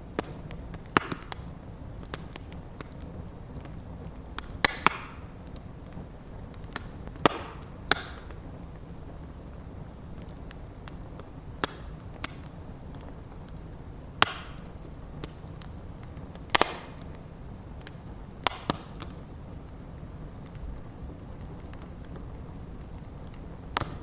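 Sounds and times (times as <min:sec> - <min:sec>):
crackling pops of burning wood: 0:00.0 - 0:24.0
low rumble of flames: 0:00.0 - 0:24.0.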